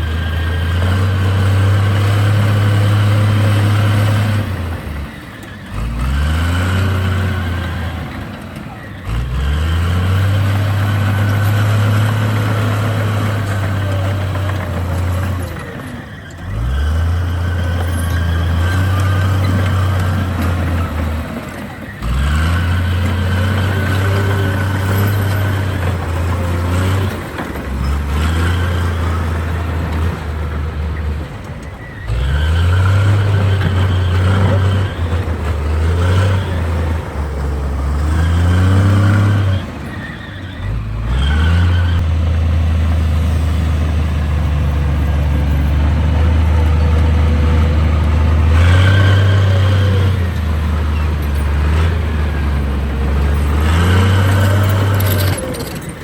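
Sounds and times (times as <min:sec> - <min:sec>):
heavy diesel machinery engines: 0:00.0 - 0:56.0.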